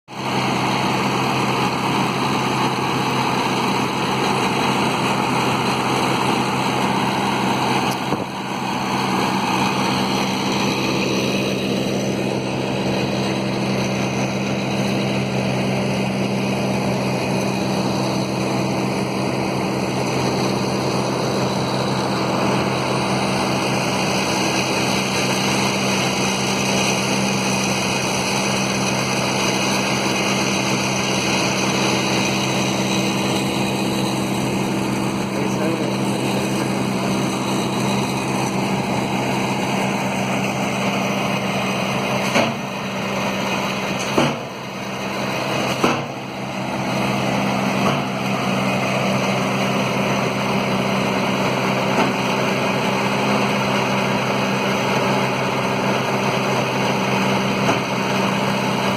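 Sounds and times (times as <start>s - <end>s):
engine running steadily: 0.1s - 58.9s.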